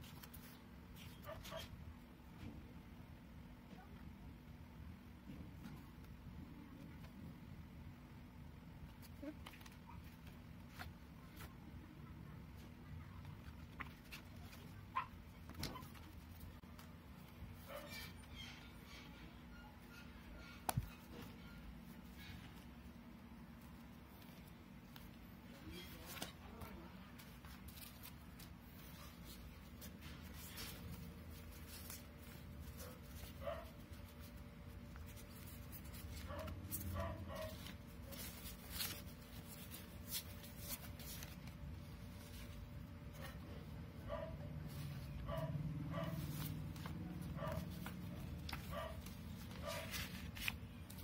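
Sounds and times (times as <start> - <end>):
soft rustling of cardboard: 0.0 - 2.7, 8.7 - 19.0, 20.6 - 51.0.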